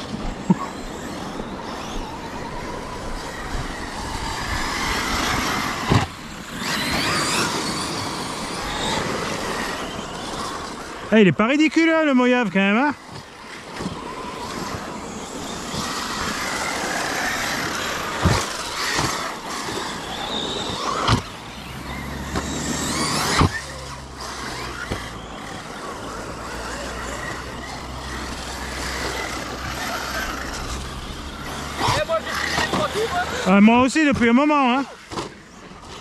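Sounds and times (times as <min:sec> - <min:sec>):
rc cars knocking: 0:00.0 - 0:11.1, 0:13.0 - 0:36.0
rc car motors whining: 0:00.0 - 0:36.0.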